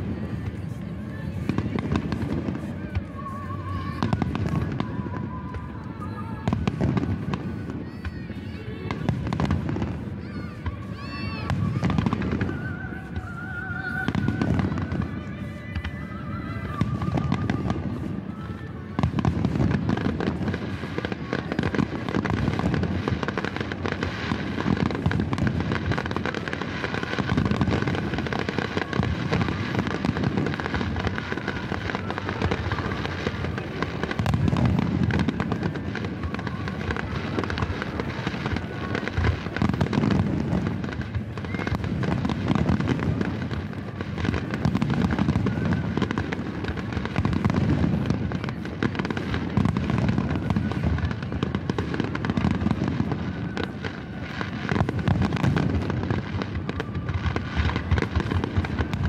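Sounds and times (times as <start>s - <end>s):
fireworks crackling: 0.0s - 59.0s
fireworks low booms: 0.0s - 59.0s.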